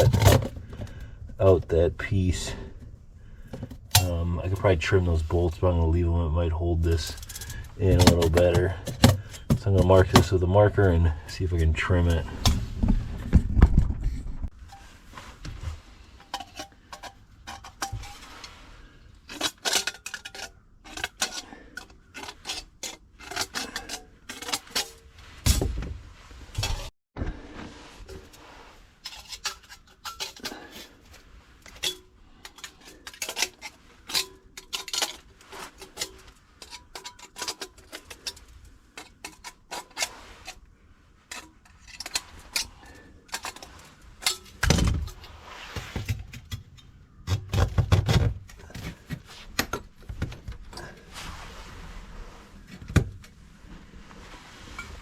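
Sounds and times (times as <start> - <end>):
hand tools clicking and scraping: 0.0 - 12.7, 14.5 - 25.7, 26.5 - 26.9, 27.6 - 55.0.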